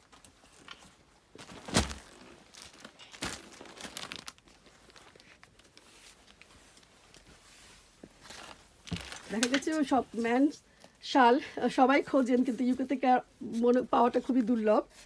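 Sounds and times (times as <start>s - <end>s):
fabric and plastic rustling: 0.0s - 15.0s.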